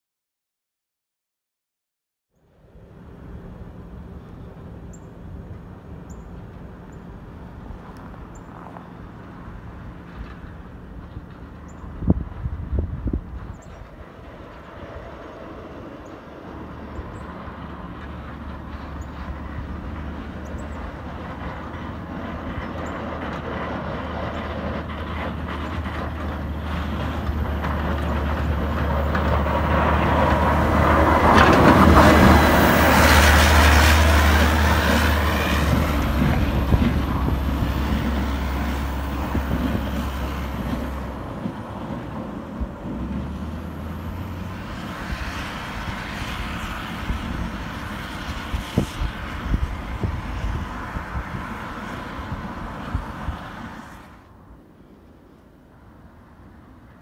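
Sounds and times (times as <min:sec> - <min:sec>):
diesel engine under load: 0:02.6 - 0:54.7.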